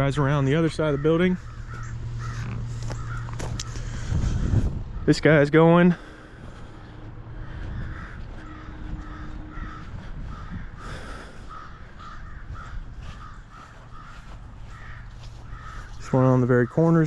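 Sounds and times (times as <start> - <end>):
low steady rumble: 0.0 - 16.6
birds making harsh calls: 0.0 - 17.0.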